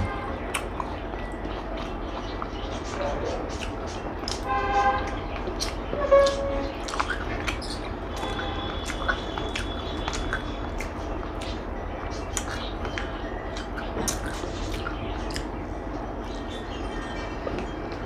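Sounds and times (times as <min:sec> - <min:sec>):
steady background noise: 0:00.0 - 0:18.0
wet chewing clicks: 0:00.4 - 0:02.8, 0:03.4 - 0:15.6.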